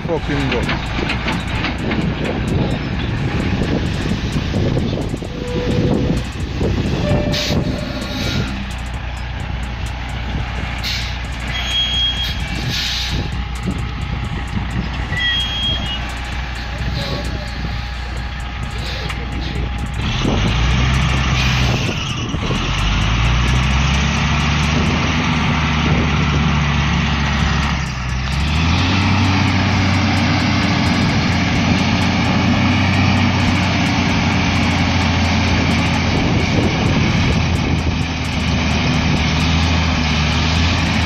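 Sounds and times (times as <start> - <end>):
diesel truck engine revving: 0.0 - 41.0.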